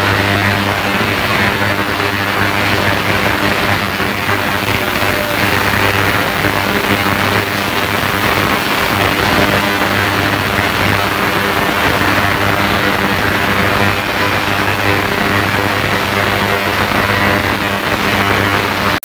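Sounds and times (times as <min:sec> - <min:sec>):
ultrasonic cleaner humming: 0:00.0 - 0:19.0.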